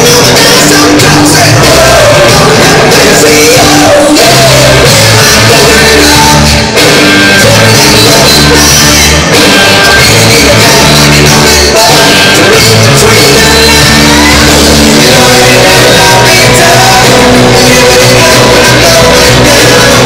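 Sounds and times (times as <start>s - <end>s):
backing music with bass beat: 0.0s - 20.0s.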